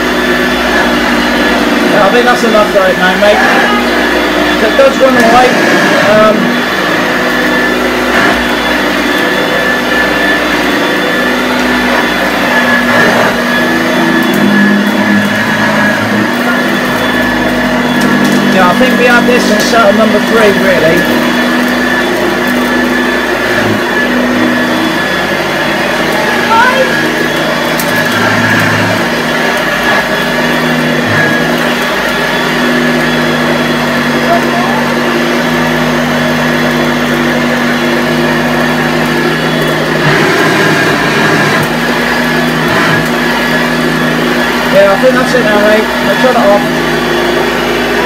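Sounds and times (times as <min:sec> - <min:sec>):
beater bar beating carpet: 0:00.0 - 0:48.0
upright vacuum cleaner running: 0:00.0 - 0:48.0.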